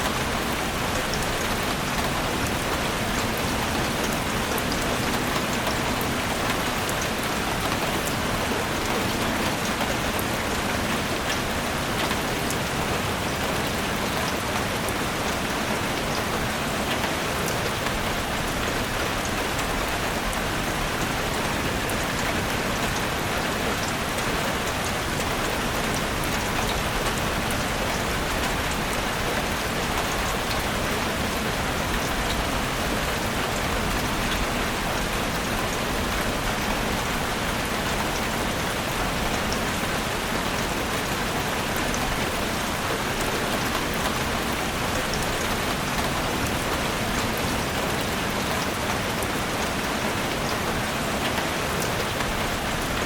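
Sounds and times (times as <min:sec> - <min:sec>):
rain falling on foliage: 0:00.0 - 0:53.0.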